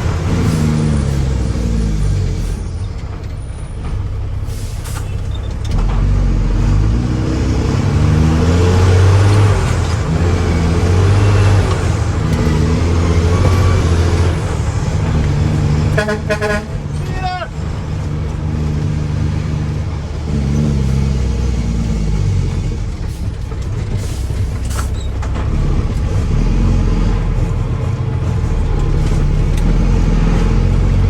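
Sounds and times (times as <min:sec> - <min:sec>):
diesel truck engine revving: 0:00.0 - 0:31.0.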